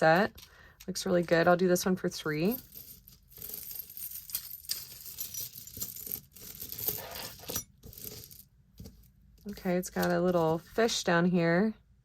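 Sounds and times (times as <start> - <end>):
jewelry clinking and rustling: 0.0 - 10.9.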